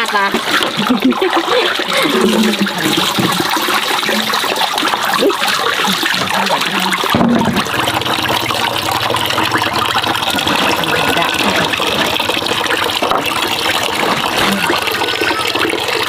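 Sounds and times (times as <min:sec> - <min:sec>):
water pouring and splashing: 0:00.0 - 0:16.0.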